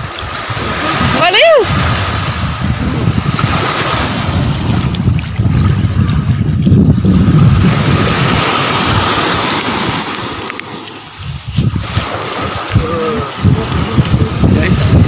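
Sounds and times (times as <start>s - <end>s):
waves washing onto beach: 0.0s - 15.0s
wind buffeting microphone: 0.0s - 15.0s.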